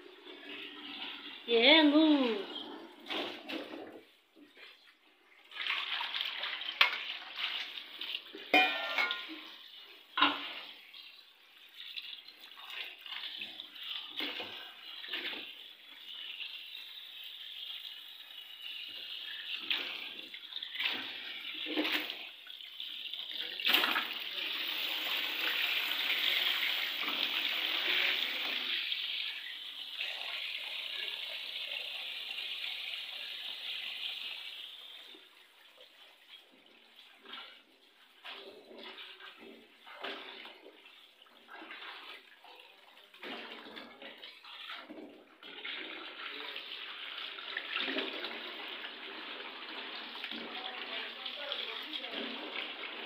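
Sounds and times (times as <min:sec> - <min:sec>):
tap water running into sink: 0:05.5 - 0:53.0.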